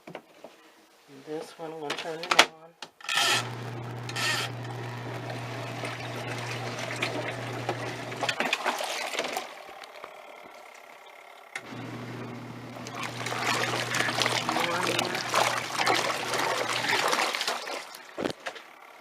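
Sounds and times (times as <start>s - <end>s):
washing machine motor hum: 3.0s - 19.0s
water and clothes churning: 3.2s - 11.0s, 11.6s - 19.0s.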